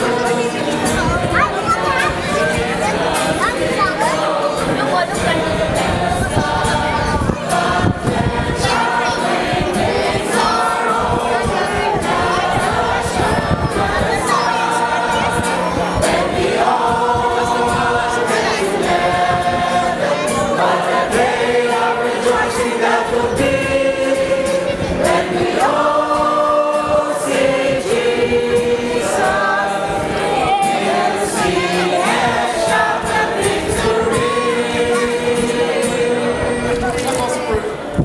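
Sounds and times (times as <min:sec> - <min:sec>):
group singing: 0:00.0 - 0:38.0
strummed acoustic guitar: 0:00.0 - 0:38.0.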